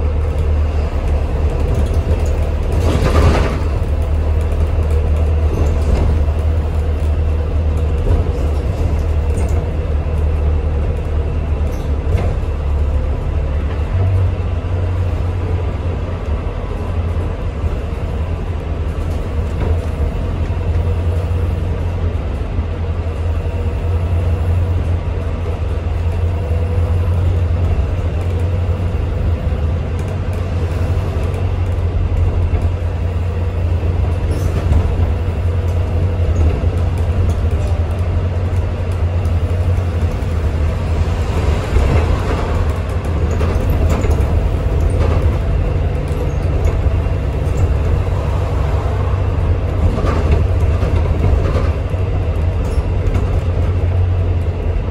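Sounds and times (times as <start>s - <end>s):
bus engine drone: 0.0s - 54.9s
rattles inside bus: 0.0s - 54.9s
road noise: 0.0s - 54.9s.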